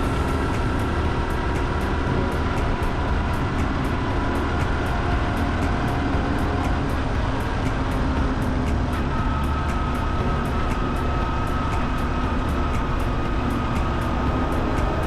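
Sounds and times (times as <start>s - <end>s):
small motorcycle engine running: 0.0s - 15.0s
wind rumble on microphone: 0.0s - 15.0s.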